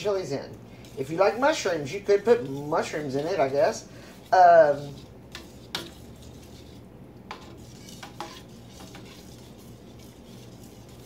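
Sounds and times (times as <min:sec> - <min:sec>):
utensil scraping a steel skillet: 0:00.8 - 0:11.0.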